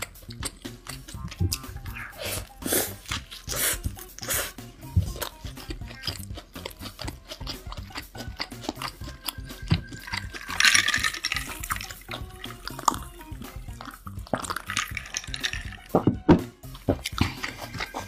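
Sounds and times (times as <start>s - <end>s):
wet chewing mouth clicks: 0.0s - 16.0s, 16.6s - 18.0s.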